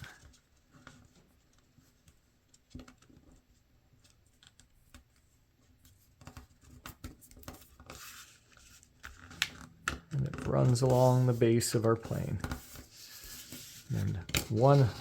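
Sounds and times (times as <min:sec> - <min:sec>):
paper rustling and creasing: 0:00.0 - 0:15.0.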